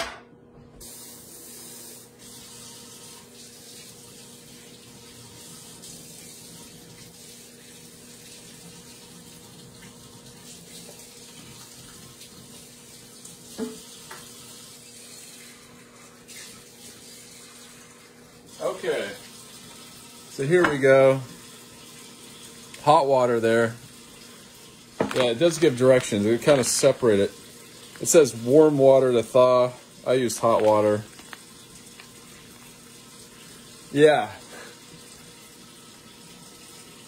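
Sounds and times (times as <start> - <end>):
kitchen tap running into a bowl: 0.8 - 37.0.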